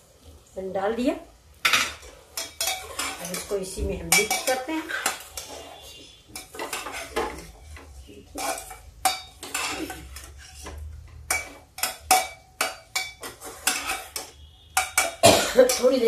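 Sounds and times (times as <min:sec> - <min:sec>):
metal spoon scraping a pot: 0:01.6 - 0:16.0.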